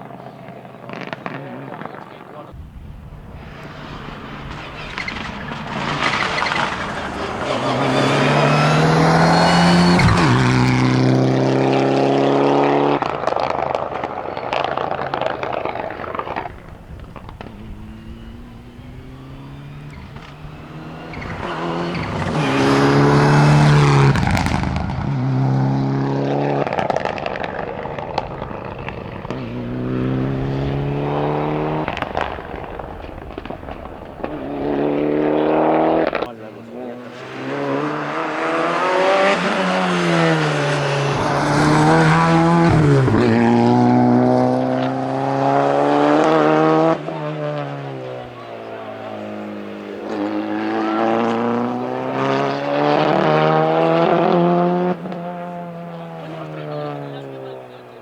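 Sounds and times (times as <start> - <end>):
rally car engine revving past: 0.0 - 58.0.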